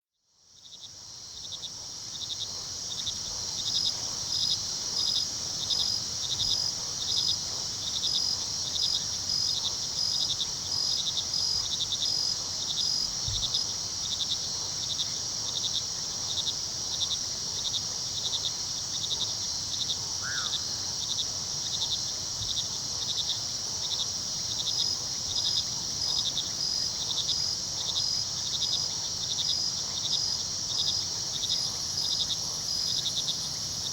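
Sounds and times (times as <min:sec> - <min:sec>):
crickets trilling: 0:00.5 - 0:33.9.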